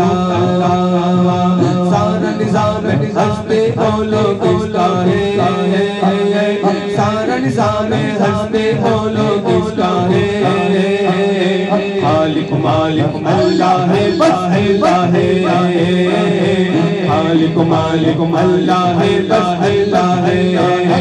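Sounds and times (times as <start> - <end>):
men singing devotional chant: 0.0 - 21.0.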